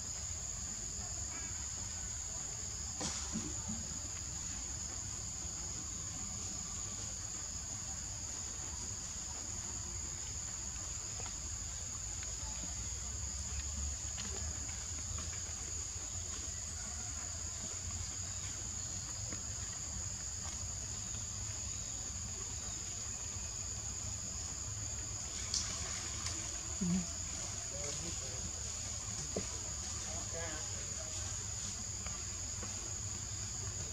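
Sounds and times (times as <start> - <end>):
insect chorus drone: 0.0 - 33.9.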